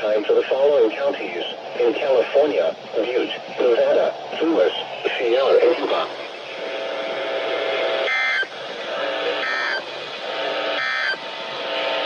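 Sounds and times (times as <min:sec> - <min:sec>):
steady radio hum: 0:00.0 - 0:12.0.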